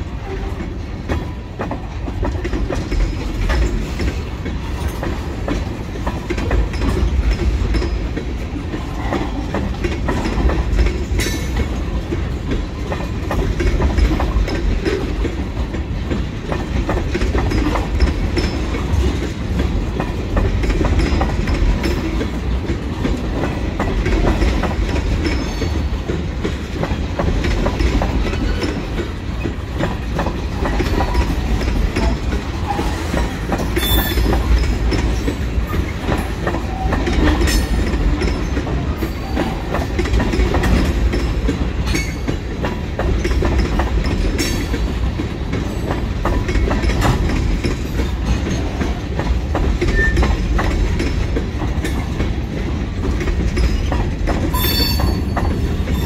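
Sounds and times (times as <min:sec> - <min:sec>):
train rumbling: 0:00.0 - 0:56.0
wheels clacking over rail joints: 0:00.1 - 0:56.0.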